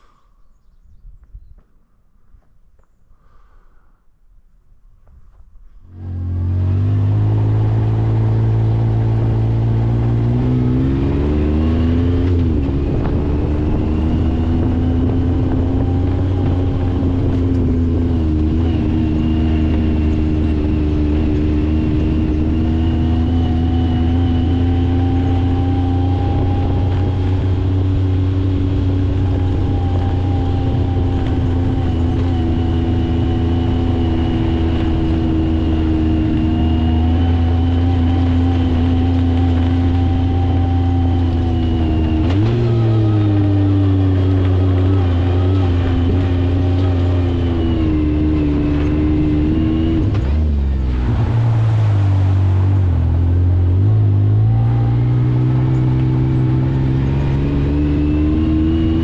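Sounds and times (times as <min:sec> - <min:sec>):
engine running loud from inside cab: 0:05.9 - 0:59.0.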